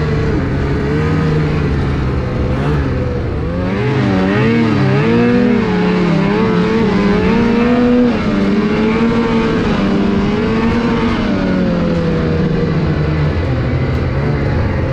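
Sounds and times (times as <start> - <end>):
snowmobile engine running hard: 0.0 - 14.9.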